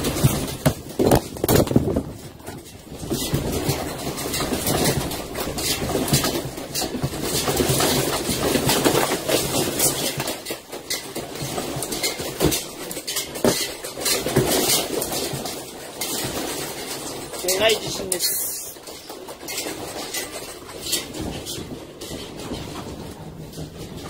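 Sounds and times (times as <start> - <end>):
loose objects rattling and knocking: 0.0 - 24.0.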